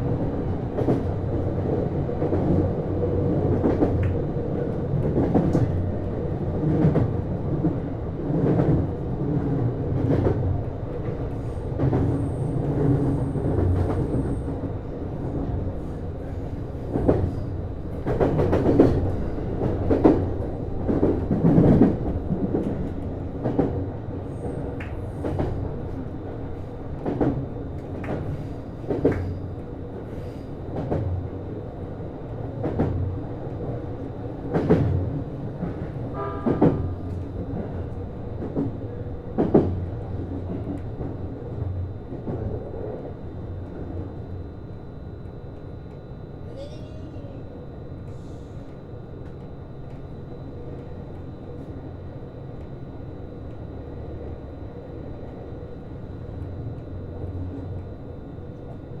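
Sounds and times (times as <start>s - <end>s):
railcar hum: 0.0s - 59.0s.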